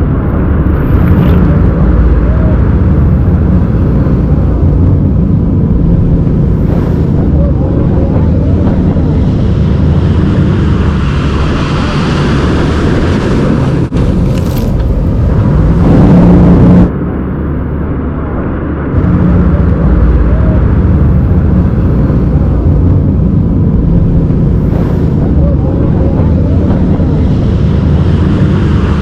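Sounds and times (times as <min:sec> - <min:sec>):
engine hum: 0:00.0 - 0:29.0
loud rushing noise: 0:00.0 - 0:29.0.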